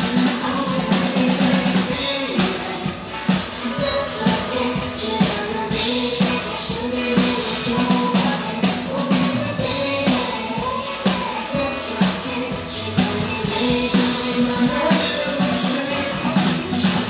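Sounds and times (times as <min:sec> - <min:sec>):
drum kit playing: 0:00.0 - 0:17.0
pop duet singing: 0:00.0 - 0:17.0.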